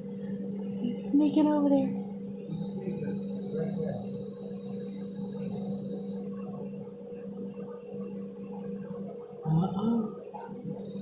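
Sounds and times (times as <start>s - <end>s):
faint high whine: 0.0s - 11.0s
higher hum: 0.0s - 11.0s
low droning hum: 0.0s - 11.0s.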